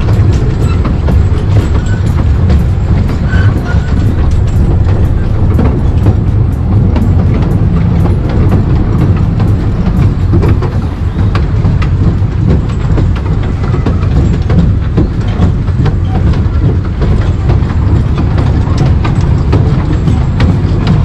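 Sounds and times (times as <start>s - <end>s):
train rumbling along: 0.0s - 21.0s
wheels clicking and rattling: 0.0s - 21.0s.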